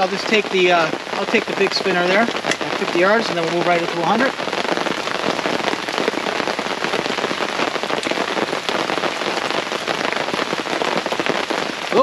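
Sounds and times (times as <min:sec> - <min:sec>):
heavy rain on fabric canopy: 0:00.0 - 0:12.0.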